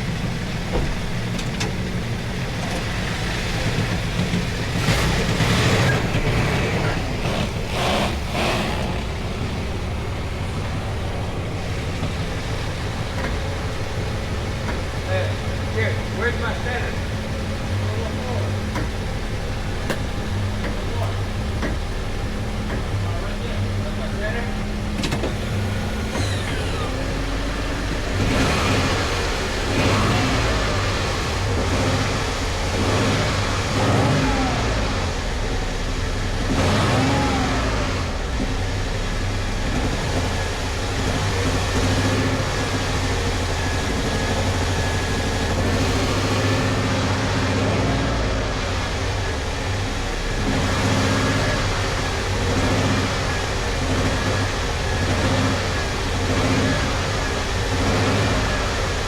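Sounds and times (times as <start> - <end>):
road noise: 0.0 - 59.0
vehicle engine running: 0.0 - 59.0.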